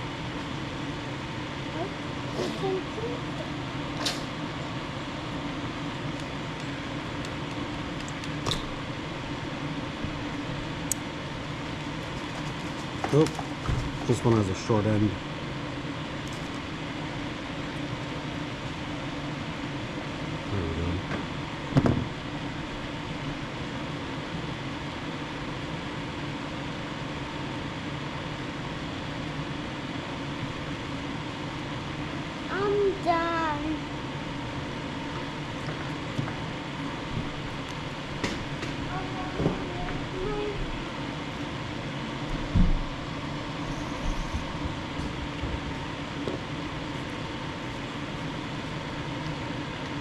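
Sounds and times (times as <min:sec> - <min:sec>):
fan-like hum: 0:00.0 - 0:50.0.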